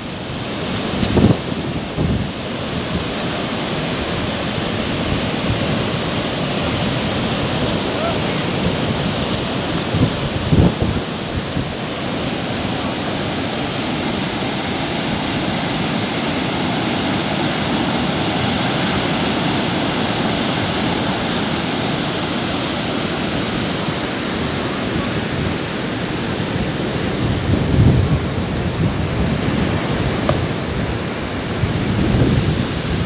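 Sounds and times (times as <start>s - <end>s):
sea surf breaking: 0.0s - 33.0s.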